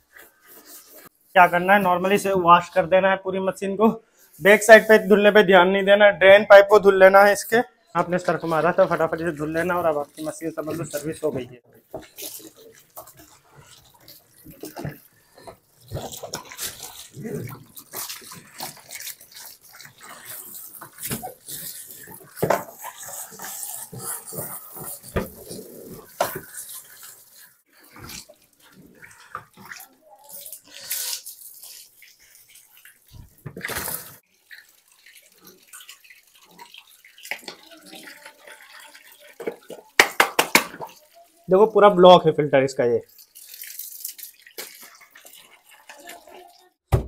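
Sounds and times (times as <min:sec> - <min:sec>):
water splashing on plastic: 0:06.3 - 0:47.0.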